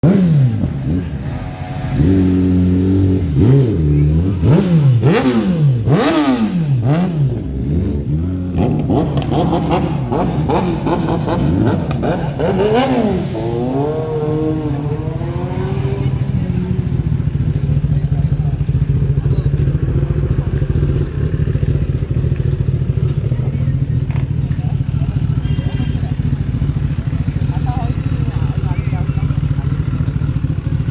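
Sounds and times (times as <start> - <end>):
motorcycle engine idling: 0.0 - 30.9
motorcycle engine revving: 0.0 - 30.9.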